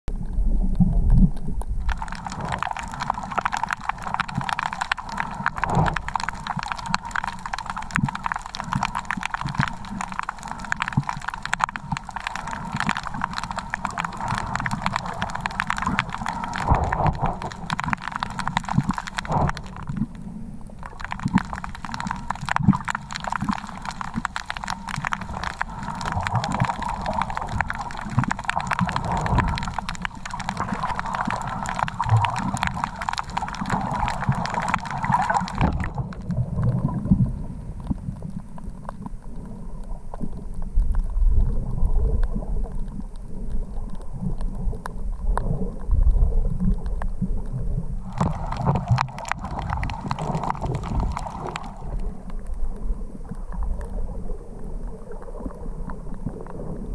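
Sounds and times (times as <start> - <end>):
low surging water: 0.1 - 56.9
underwater crackle of clicks: 0.1 - 56.9.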